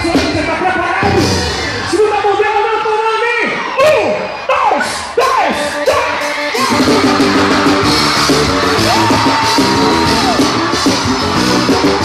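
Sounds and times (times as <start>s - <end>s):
live band playing gospel music: 0.0s - 12.0s.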